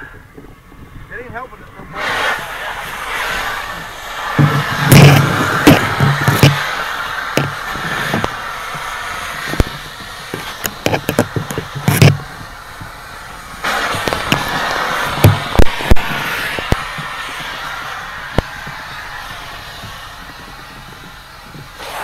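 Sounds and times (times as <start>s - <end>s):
steady fire hiss: 0.0s - 22.0s
structure fire crackling: 0.0s - 22.0s
fire pops and cracks: 2.0s - 22.0s.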